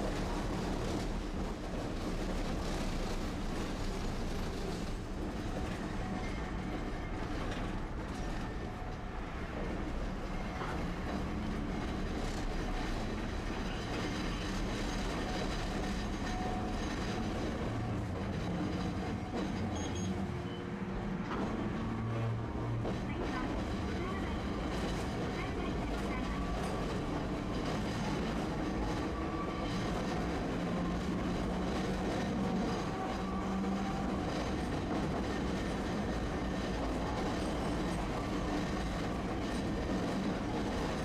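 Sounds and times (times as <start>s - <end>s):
streetcar wheels rumbling on rails: 0.0s - 41.0s.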